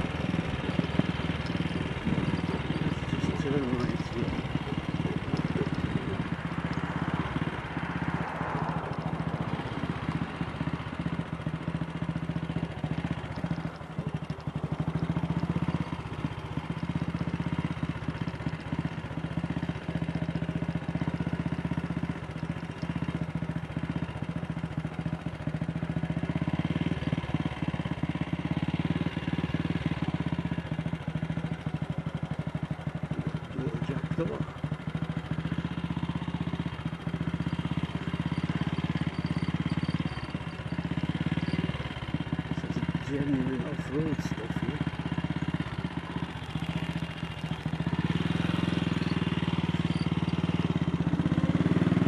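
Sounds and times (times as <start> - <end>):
single-cylinder motorcycle engine: 0.0 - 52.0.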